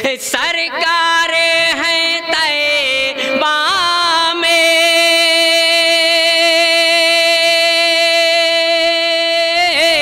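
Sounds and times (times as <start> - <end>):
man singing a long note: 0.0 - 10.0.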